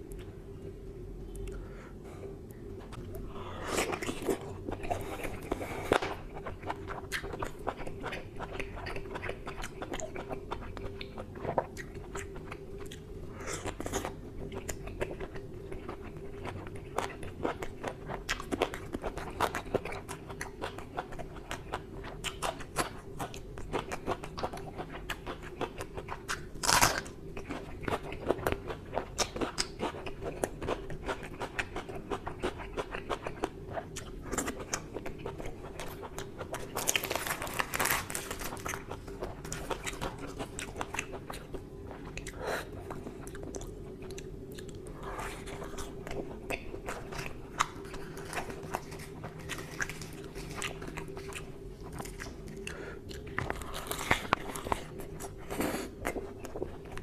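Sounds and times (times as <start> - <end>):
faint steady hum: 0.0 - 57.0
wet chewing and smacking: 3.8 - 57.0.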